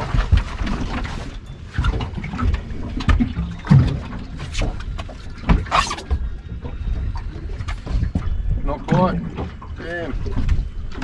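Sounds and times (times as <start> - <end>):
low wind rumble: 0.0 - 11.0
water lapping against boat hull: 0.0 - 11.0.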